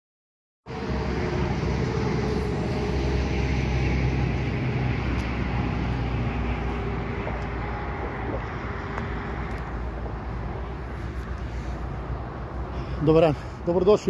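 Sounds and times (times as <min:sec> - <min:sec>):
road traffic rumble: 0:00.7 - 0:14.0.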